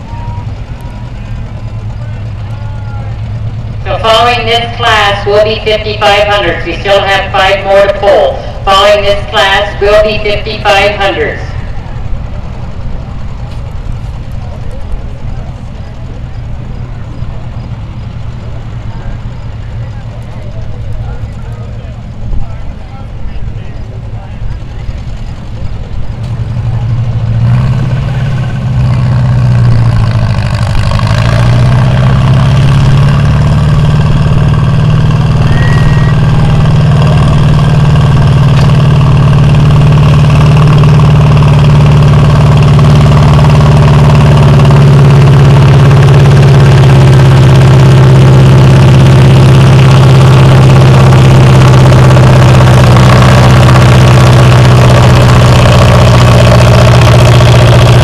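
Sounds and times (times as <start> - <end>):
tractor engine running loud: 0.0 - 58.0.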